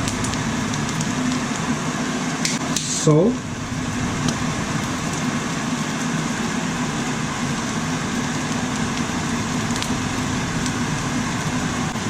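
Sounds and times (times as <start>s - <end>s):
low mechanical hum: 0.0s - 12.0s
meat frying in a pan: 0.0s - 12.0s.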